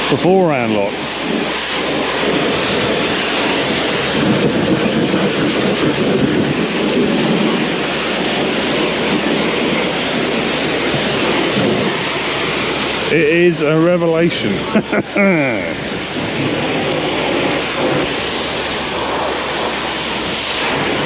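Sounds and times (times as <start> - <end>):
pressure washer water spray: 0.0 - 21.0.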